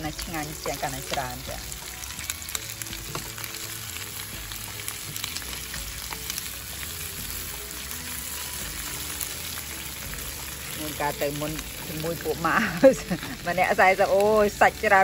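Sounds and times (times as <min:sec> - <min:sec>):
meat and vegetables sizzling: 0:00.0 - 0:15.0.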